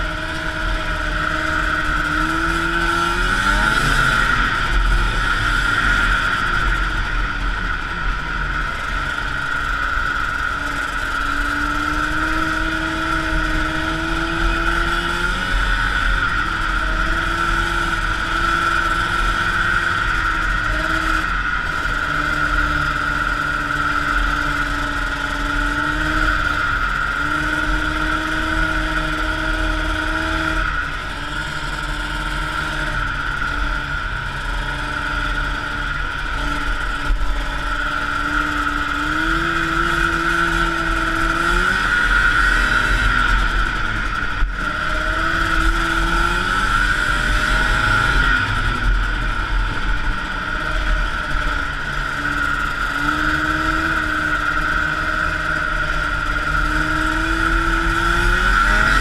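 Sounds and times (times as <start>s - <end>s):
snowmobile two-stroke engine: 0.0s - 59.0s.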